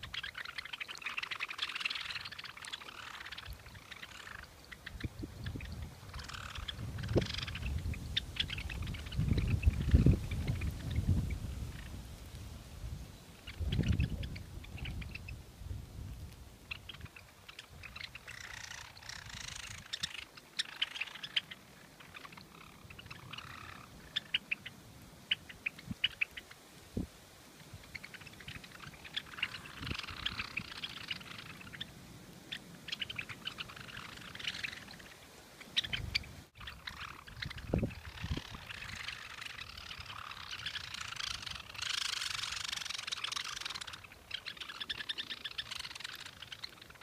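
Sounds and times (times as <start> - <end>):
sparrows chipping and chattering: 0.0 - 26.6, 27.6 - 47.0.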